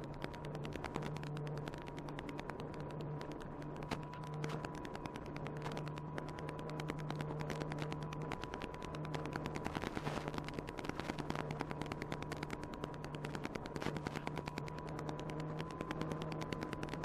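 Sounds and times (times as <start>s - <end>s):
motor and propeller hum: 0.0s - 17.0s
rapid crackling clicks: 0.0s - 17.0s.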